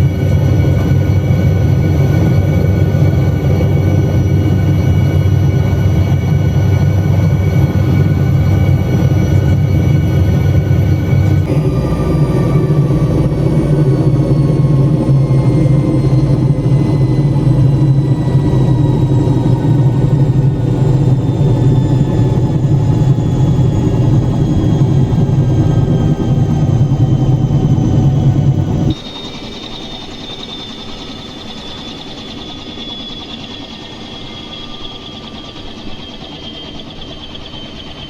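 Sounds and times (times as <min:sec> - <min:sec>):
helicopter piston engine running: 0:00.0 - 0:38.0
rotor whine winding down: 0:00.0 - 0:38.0.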